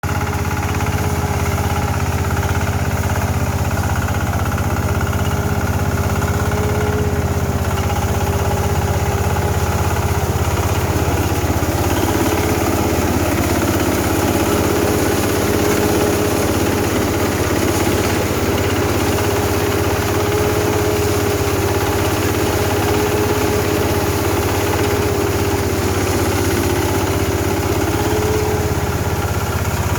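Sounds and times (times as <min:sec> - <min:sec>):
harvester engine running: 0:00.0 - 0:29.9.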